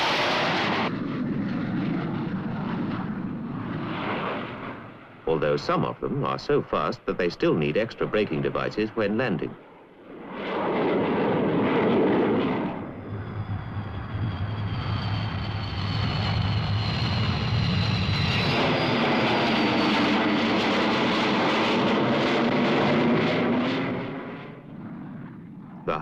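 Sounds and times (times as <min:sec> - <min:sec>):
jet engines whining and roaring: 0:00.0 - 0:26.0.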